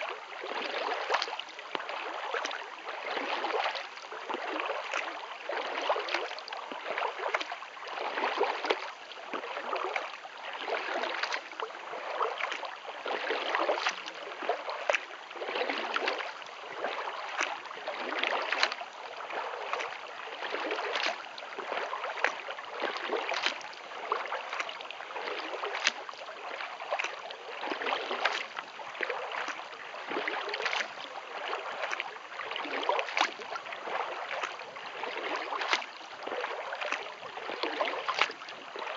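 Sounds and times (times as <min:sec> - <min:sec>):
paddle strokes splashing: 0:00.0 - 0:38.9
water dripping from paddle: 0:00.0 - 0:38.9.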